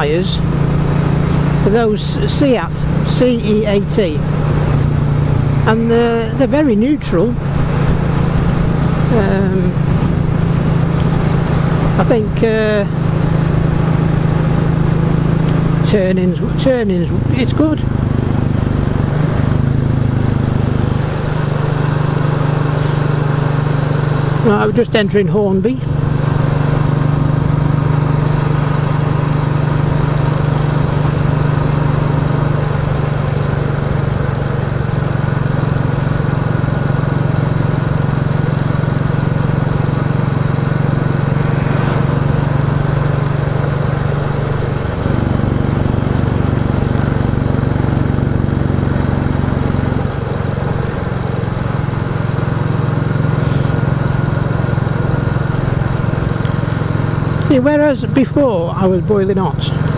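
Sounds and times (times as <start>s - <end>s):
single-cylinder motorcycle engine running: 0.0s - 59.9s.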